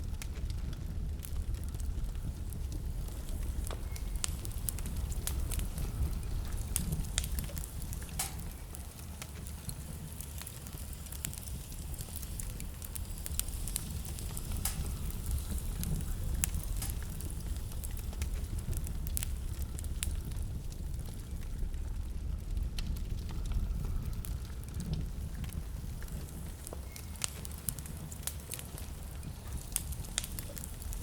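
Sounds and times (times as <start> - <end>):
blizzard wind rumbling: 0.0 - 31.0
wood fire crackling: 0.0 - 31.0
sharp pops of fire: 0.1 - 31.0.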